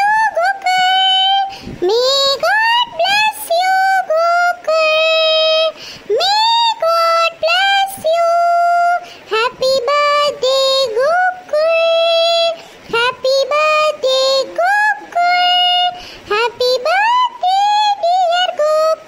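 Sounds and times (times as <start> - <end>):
high cartoon voice singing: 0.0 - 19.0.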